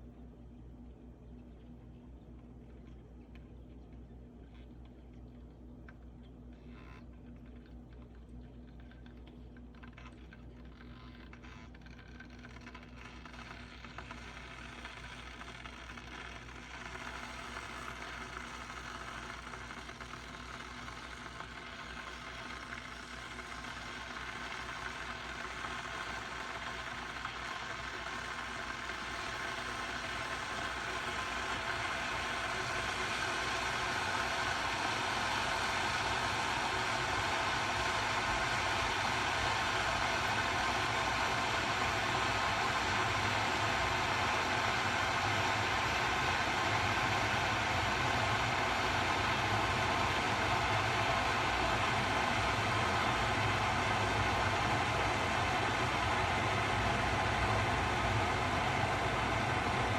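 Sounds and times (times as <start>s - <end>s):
kettle heating water: 0.0s - 59.9s.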